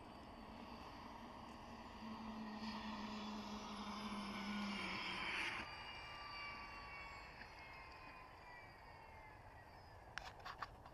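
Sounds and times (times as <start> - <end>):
low hum: 0.0 - 10.9
rc helicopter rotor whine: 0.0 - 10.9.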